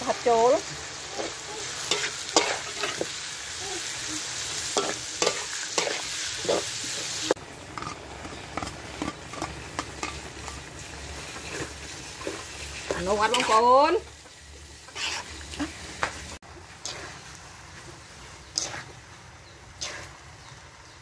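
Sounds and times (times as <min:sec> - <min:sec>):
food sizzling in oil: 0:00.0 - 0:21.0
metal spatula scraping a wok: 0:00.1 - 0:14.0, 0:14.6 - 0:15.9, 0:16.7 - 0:19.0, 0:19.8 - 0:20.2.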